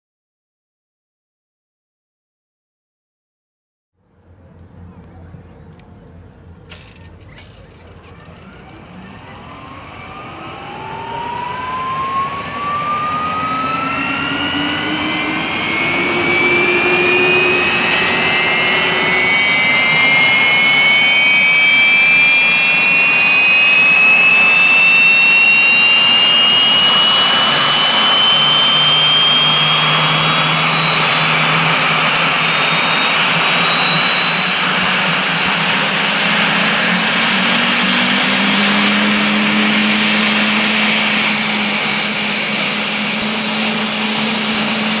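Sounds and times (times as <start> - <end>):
low rotor hum: 4.0 - 45.0
turbine engine whine: 4.0 - 45.0.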